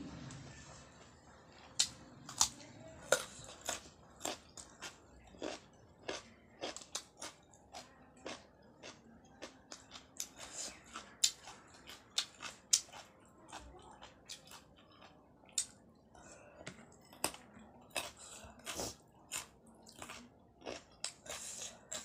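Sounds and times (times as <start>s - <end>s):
chewing and crunching carrot: 0.6s - 22.0s.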